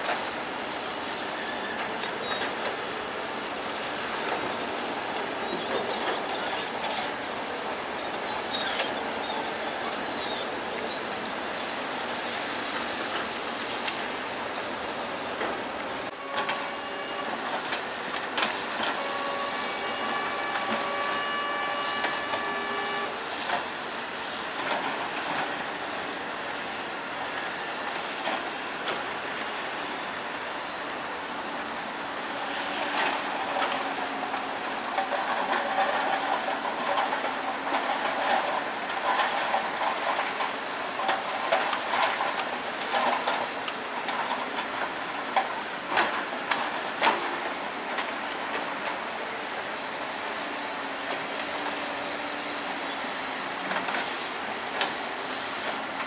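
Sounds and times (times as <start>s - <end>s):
crawler tracks clanking and rattling: 0.0s - 26.7s, 32.0s - 56.0s.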